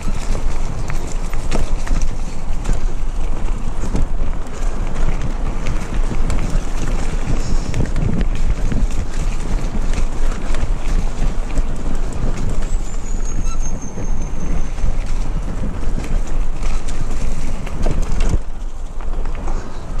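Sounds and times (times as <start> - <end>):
bike clicks and rattles: 0.0 - 20.0
bike tyres rolling on dirt: 0.0 - 20.0
wind buffeting microphone: 0.0 - 20.0.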